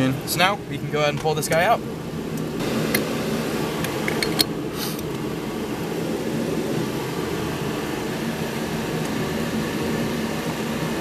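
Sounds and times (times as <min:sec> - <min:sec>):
fan-like hum: 0:00.0 - 0:11.0.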